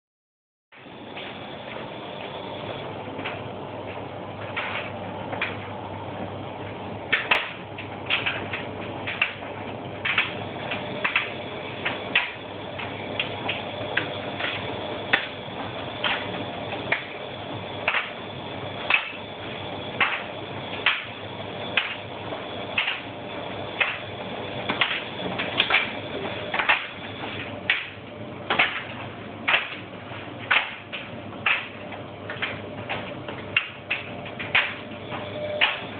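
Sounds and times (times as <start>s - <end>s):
washing machine running: 0.7s - 35.9s.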